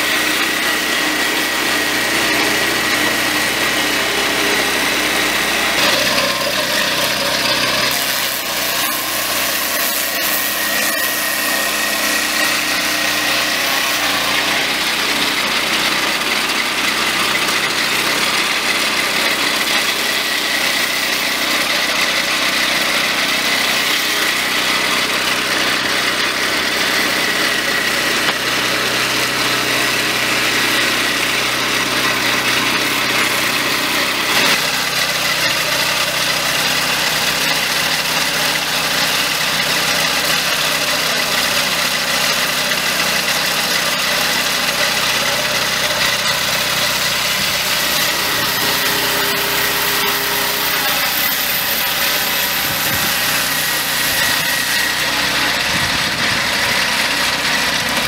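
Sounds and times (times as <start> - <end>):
petrol engine running: 0.0 - 58.0.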